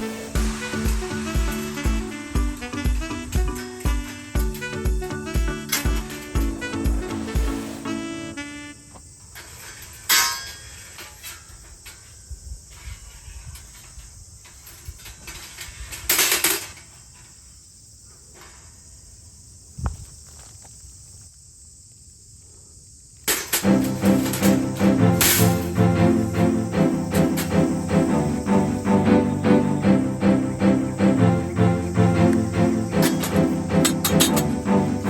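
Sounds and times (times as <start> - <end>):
steady high hiss: 0.0 - 19.9, 20.8 - 35.0.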